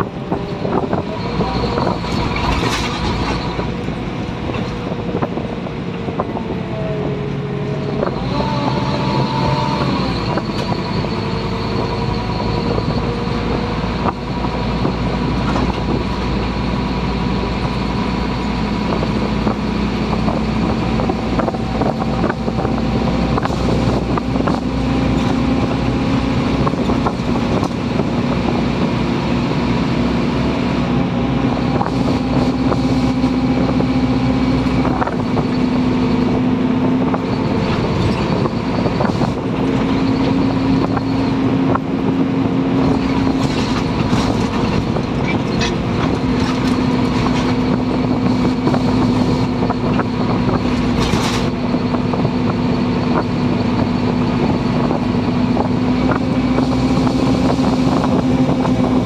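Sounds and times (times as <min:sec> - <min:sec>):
gearbox whine: 0:00.0 - 0:30.0, 0:30.8 - 0:59.0
bus diesel engine rumble: 0:00.0 - 0:59.0.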